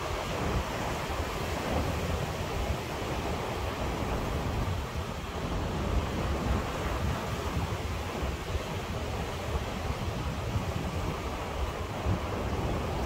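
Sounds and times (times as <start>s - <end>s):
ocean surf washing on shore: 0.0s - 13.0s
wind rumbling on microphone: 0.0s - 13.0s.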